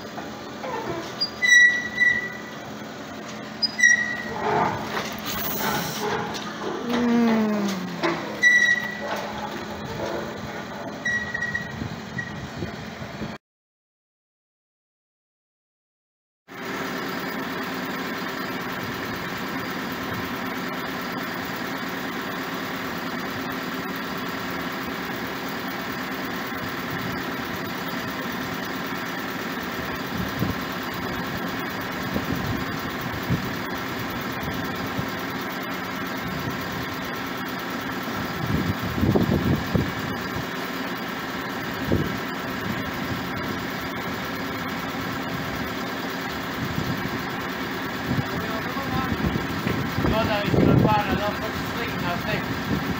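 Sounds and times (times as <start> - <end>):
engine idling: 0.0 - 13.3, 16.5 - 52.9.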